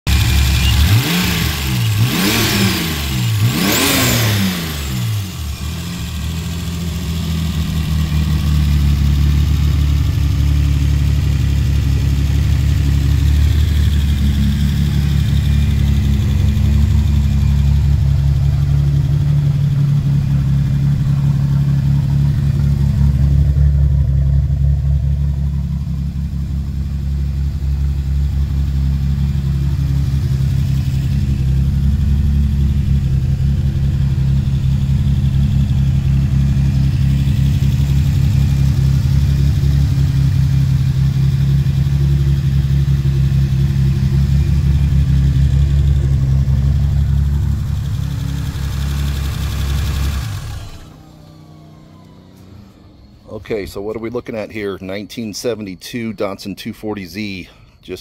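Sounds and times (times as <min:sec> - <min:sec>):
car engine revving and idling: 0:00.1 - 0:58.0.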